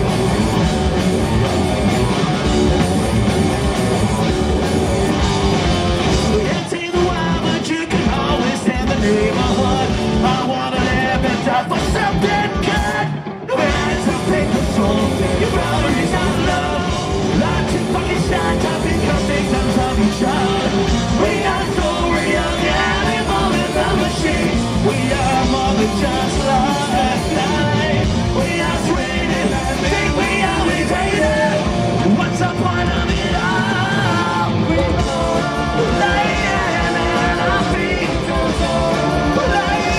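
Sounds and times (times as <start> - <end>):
punk rock band playing live: 0.0 - 39.9
sung and shouted vocals: 4.8 - 39.9.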